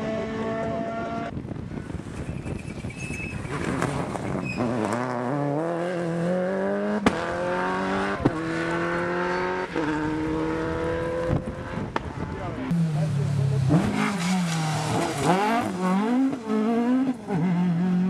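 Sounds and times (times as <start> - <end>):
rally car engine accelerating: 3.3 - 18.0.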